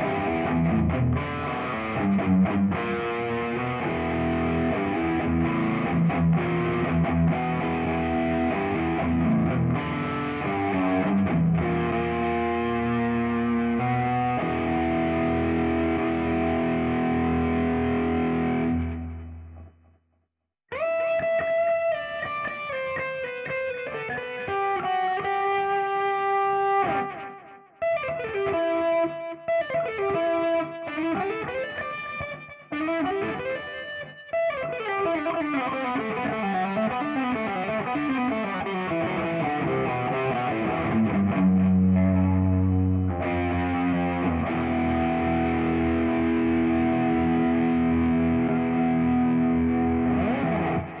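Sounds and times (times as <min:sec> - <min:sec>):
distorted electric guitar: 0:00.0 - 0:19.9, 0:20.7 - 0:51.0.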